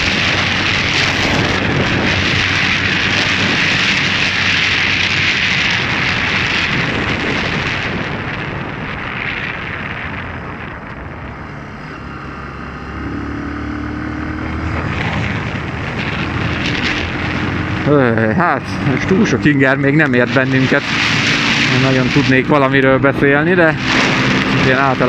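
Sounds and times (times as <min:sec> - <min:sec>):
motorcycle engine hum: 0:00.0 - 0:25.0
wind rushing over microphone: 0:00.0 - 0:25.0.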